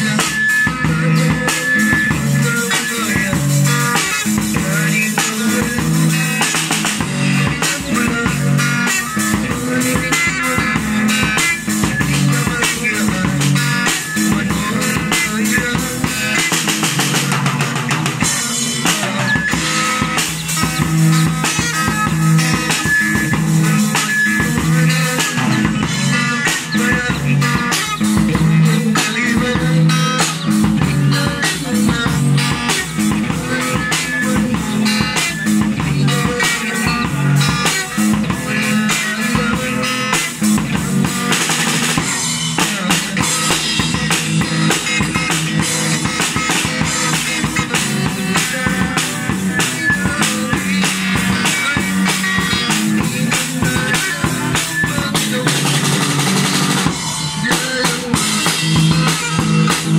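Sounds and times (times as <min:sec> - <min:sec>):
amplified electric guitar: 0:00.0 - 0:59.9
drum kit playing steady beat: 0:00.0 - 0:59.9.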